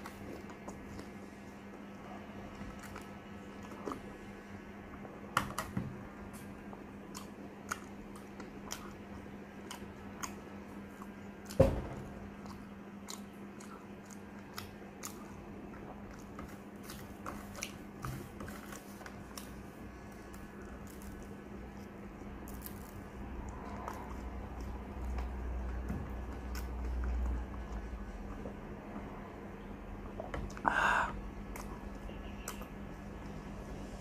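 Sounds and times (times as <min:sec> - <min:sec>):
person chewing soft food: 0:00.0 - 0:34.0
steady low hum: 0:00.0 - 0:34.0.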